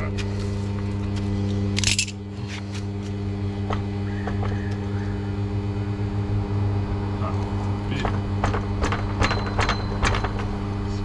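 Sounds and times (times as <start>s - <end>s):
welder transformer humming: 0.0s - 11.0s.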